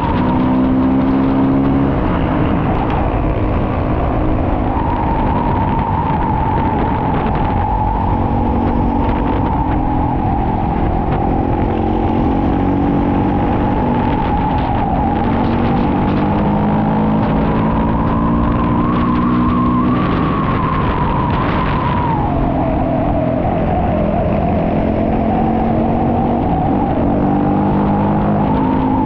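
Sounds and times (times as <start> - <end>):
motorcycle engine cruising: 0.0 - 29.0
whine: 0.0 - 29.0.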